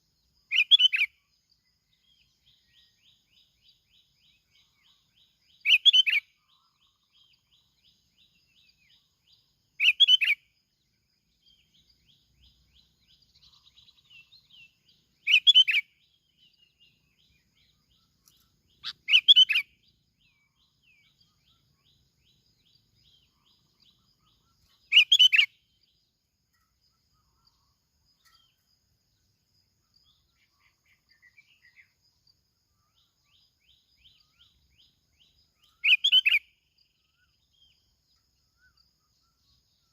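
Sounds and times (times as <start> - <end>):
faint rapid bird chatter: 0.0 - 39.9.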